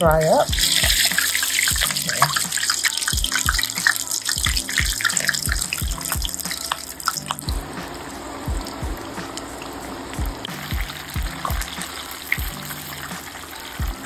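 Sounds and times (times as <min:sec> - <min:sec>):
background music with beat: 0:00.0 - 0:14.0
food deep-frying in oil: 0:00.2 - 0:14.0.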